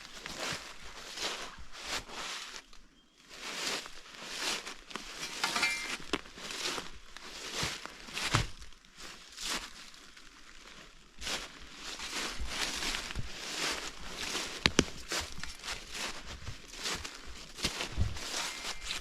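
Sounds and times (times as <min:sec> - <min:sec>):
footsteps crunching through leaves: 0:00.1 - 0:02.7, 0:03.3 - 0:19.0.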